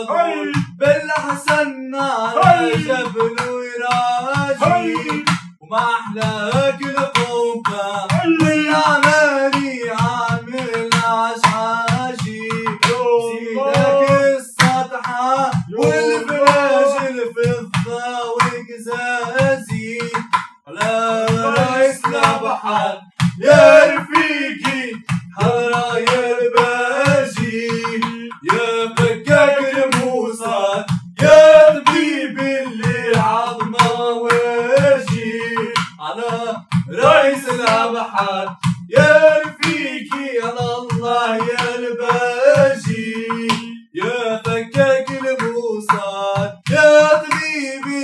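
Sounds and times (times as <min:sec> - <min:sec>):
clay pot drum strikes: 0:00.0 - 0:01.6, 0:02.3 - 0:48.0
person singing devotional song: 0:00.0 - 0:48.0.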